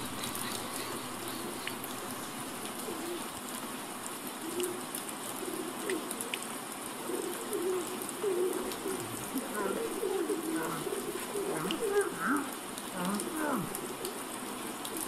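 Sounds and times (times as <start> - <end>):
person imitating pigeon coos: 0.0 - 3.3, 4.4 - 6.2, 7.0 - 14.2
steady background hiss: 0.0 - 15.0.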